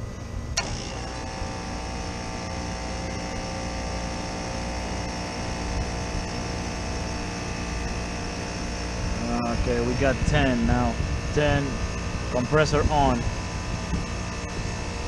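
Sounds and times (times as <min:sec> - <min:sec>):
compressor humming and whining: 0:00.0 - 0:15.0.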